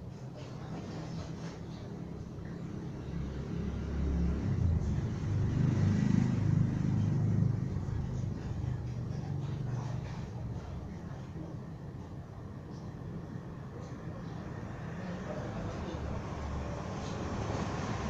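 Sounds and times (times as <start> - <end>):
vehicle engine rumble passing: 0.1 - 18.0.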